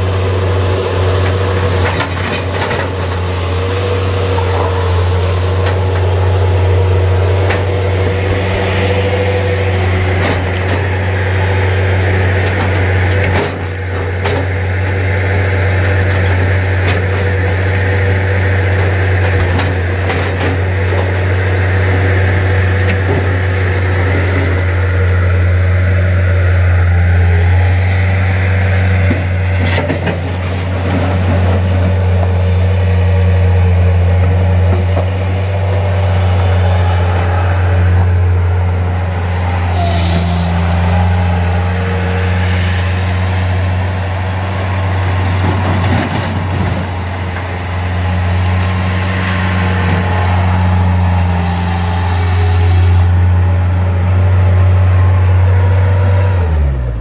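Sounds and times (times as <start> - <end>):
loader engine running under load: 0.0 - 57.0.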